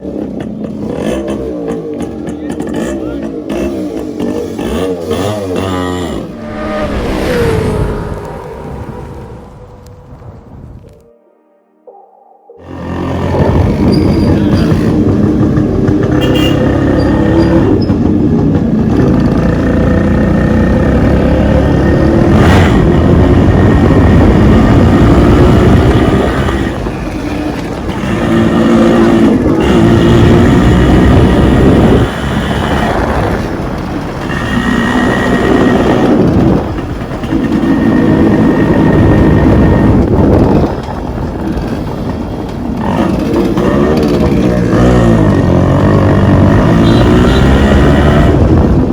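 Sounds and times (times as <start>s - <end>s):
motorcycle engine revving: 0.0s - 10.5s, 12.6s - 48.9s.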